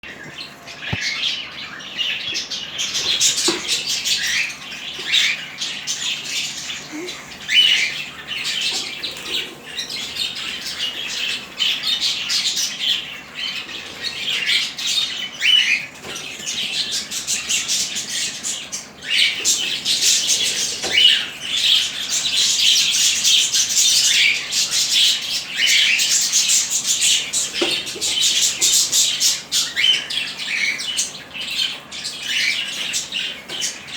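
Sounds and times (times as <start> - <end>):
lovebirds chattering: 0.0 - 33.9.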